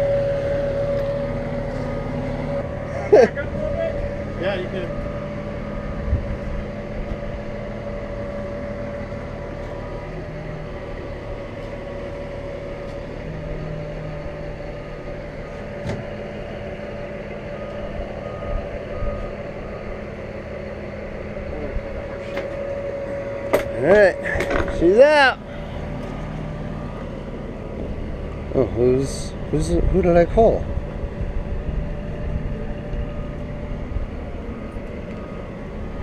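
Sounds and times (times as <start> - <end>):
lifting machinery engine drone: 0.0 - 36.0.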